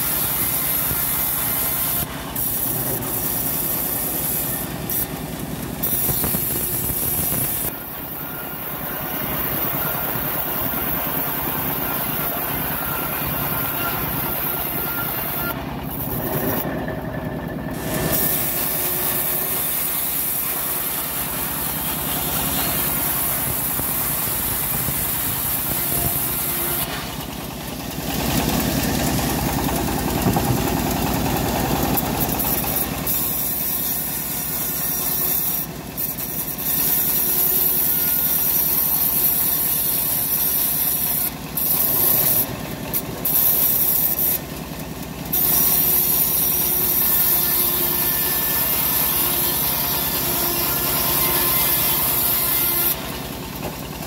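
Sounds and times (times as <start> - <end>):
bandsaw mill sawing wood: 0.0 - 54.0.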